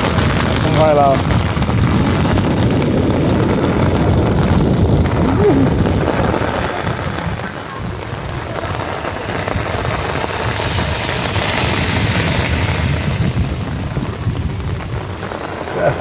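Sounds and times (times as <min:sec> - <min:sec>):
heavy rain falling: 0:00.0 - 0:16.0
wind buffeting microphone: 0:00.0 - 0:16.0.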